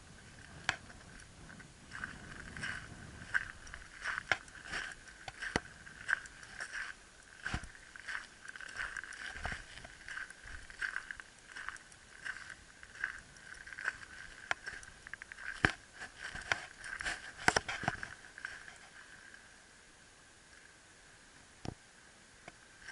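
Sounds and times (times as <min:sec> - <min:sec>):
footsteps crunching on shingle: 0:00.0 - 0:19.2.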